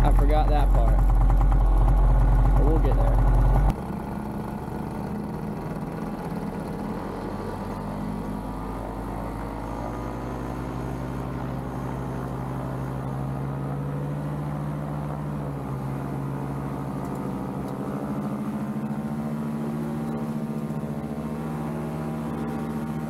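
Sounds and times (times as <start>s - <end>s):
engine and propeller running: 0.0s - 23.0s.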